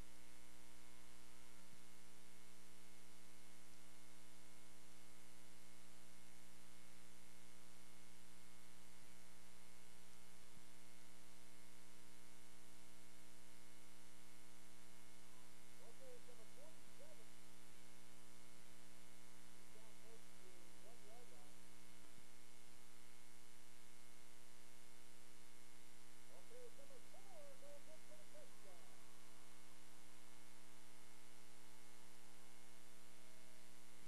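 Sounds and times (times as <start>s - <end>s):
electrical hum with hiss: 0.0s - 34.0s.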